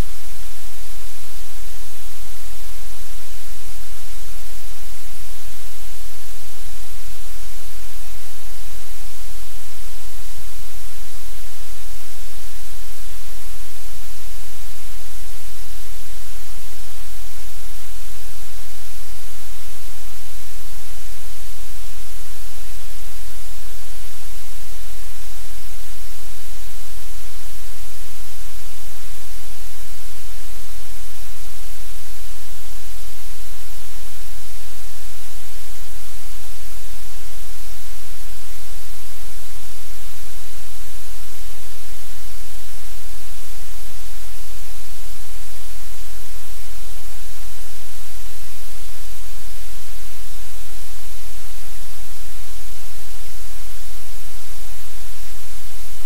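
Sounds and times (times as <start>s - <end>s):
static hiss: 0.0s - 56.0s.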